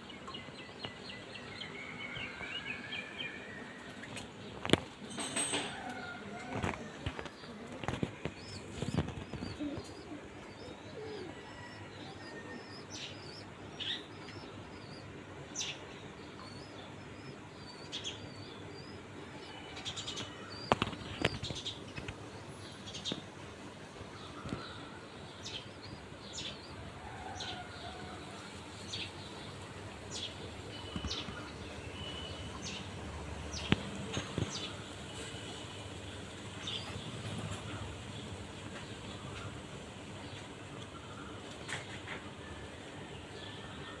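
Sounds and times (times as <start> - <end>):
bulbuls chirping: 6.1 - 44.0.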